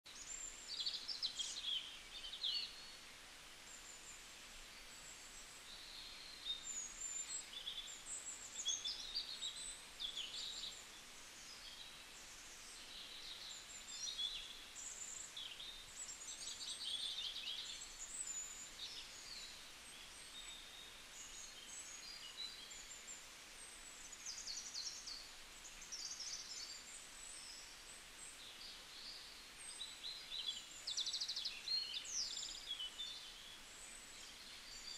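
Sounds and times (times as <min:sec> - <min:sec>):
faint steady hiss: 0:00.1 - 0:34.9.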